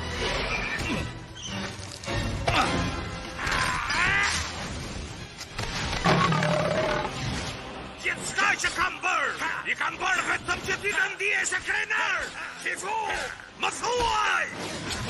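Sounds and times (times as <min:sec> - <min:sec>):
dramatic orchestral music: 0:00.0 - 0:15.0.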